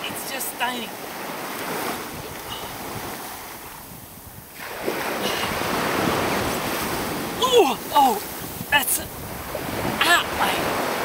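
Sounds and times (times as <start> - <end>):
ocean waves washing in: 0.0 - 11.0
wind on microphone: 1.7 - 11.0.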